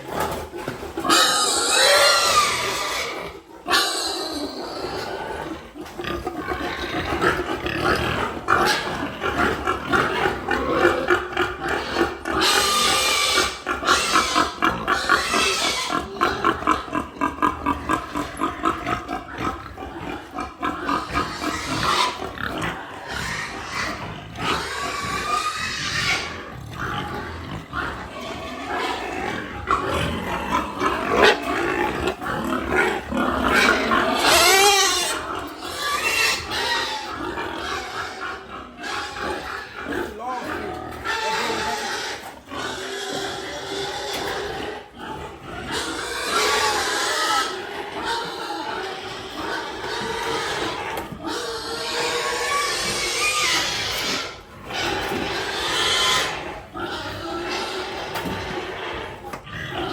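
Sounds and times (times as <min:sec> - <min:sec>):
pigs grunting: 0:00.0 - 0:59.9
pigs squealing: 0:00.0 - 0:59.9.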